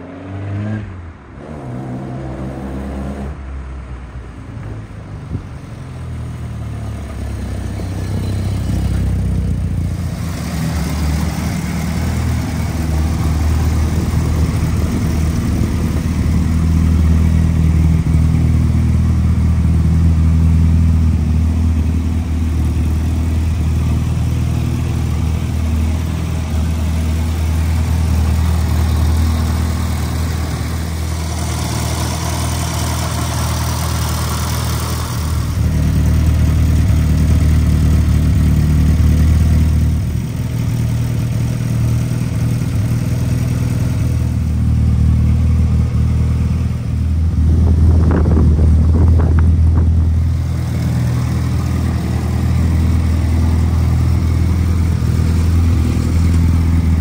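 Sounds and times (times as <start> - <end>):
car engine idling: 4.0 - 57.0.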